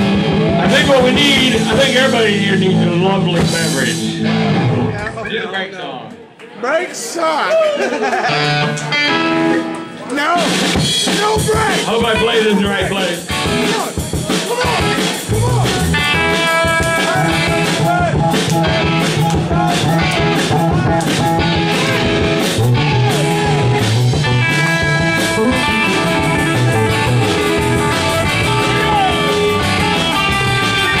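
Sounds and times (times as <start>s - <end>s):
bass line: 0.0s - 5.3s, 10.6s - 31.0s
electric guitars: 0.0s - 5.3s, 8.2s - 31.0s
drums: 0.0s - 5.4s, 7.6s - 31.0s.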